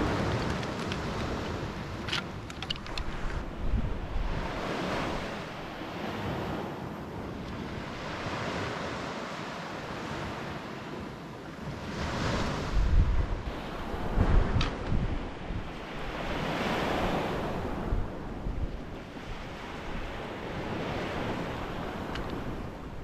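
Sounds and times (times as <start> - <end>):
ocean surf washing onto beach: 0.0 - 23.0
wind gusting against microphone: 0.0 - 23.0.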